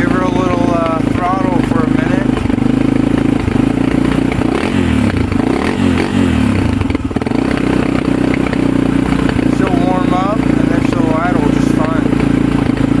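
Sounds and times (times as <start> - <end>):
engine revving and idling: 0.0 - 13.0.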